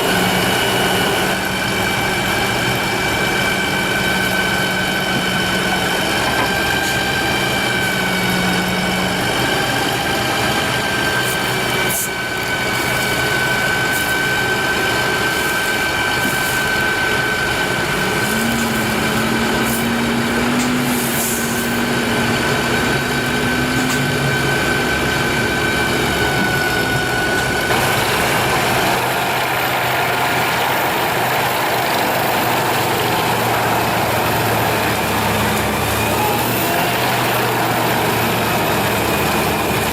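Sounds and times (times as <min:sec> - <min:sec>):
heavy machine engine whining: 0:00.0 - 0:39.9.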